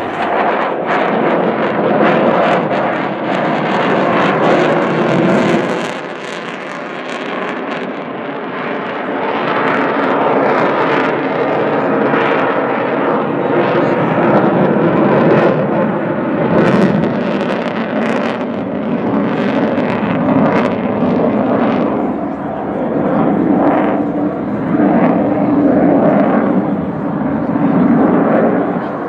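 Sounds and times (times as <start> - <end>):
fighter jet engines overhead: 0.0 - 29.0.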